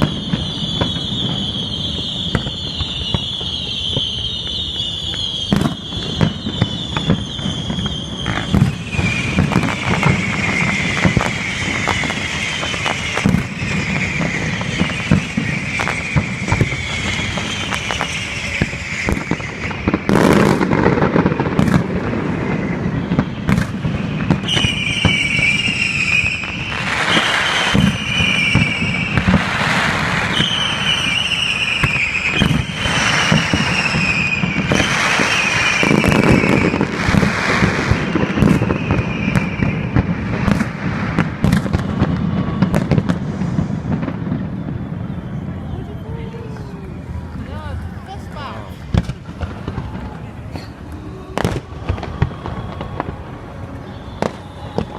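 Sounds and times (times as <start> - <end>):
heavy firework booms: 0.0 - 47.4, 48.7 - 54.9
high falling firework whistles: 0.0 - 47.4, 48.4 - 54.9
fireworks bangs and crackling: 0.0 - 54.9.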